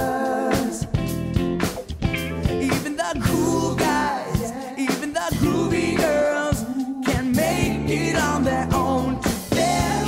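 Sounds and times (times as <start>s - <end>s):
person singing: 0.0s - 1.0s, 2.4s - 10.0s
band with bass and beat: 0.0s - 10.0s.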